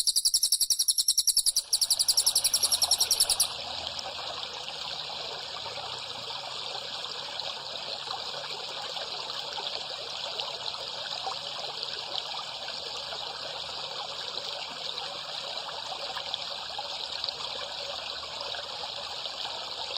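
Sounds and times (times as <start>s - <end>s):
water trickling and splashing: 1.6s - 19.9s.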